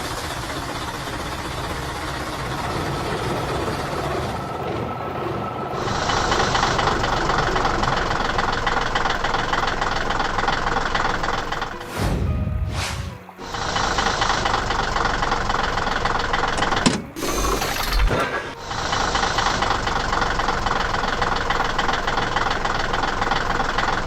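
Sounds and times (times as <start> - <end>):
heavy engine knocking rattle: 0.0 - 4.8, 5.4 - 11.8, 13.4 - 17.2, 18.4 - 24.0.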